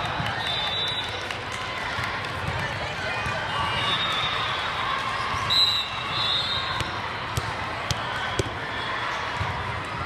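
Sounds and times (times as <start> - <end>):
crowd chatter: 0.0 - 10.0.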